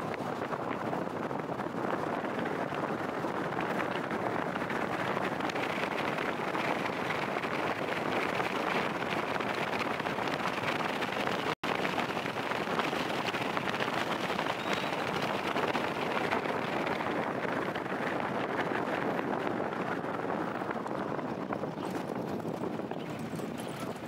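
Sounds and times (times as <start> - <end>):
rushing wind and road noise: 0.0 - 24.0.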